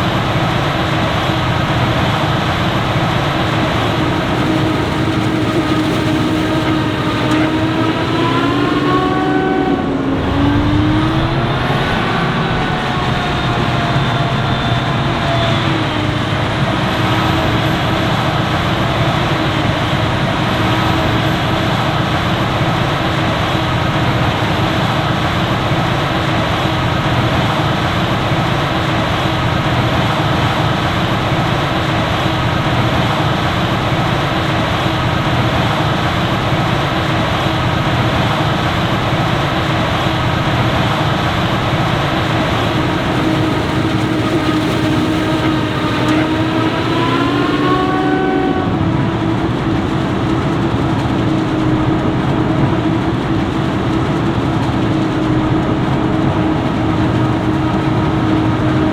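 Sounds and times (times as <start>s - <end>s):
constant machine whine: 0.0s - 58.9s
forage harvester running: 0.0s - 58.9s.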